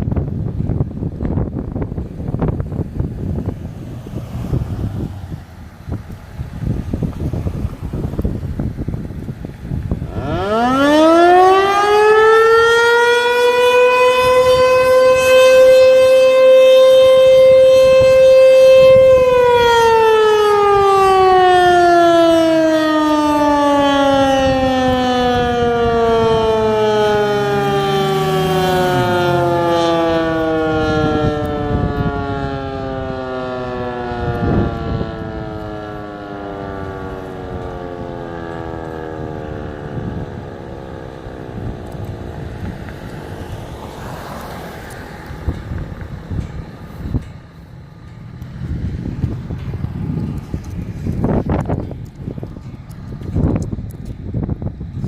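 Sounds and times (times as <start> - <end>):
warning siren winding down: 1.7 - 55.0.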